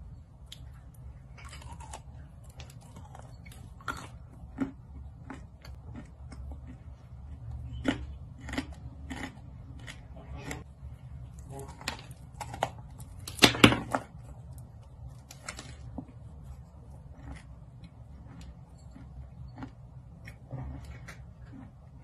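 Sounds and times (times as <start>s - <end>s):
soft chewing: 0.3s - 13.2s, 14.2s - 22.0s.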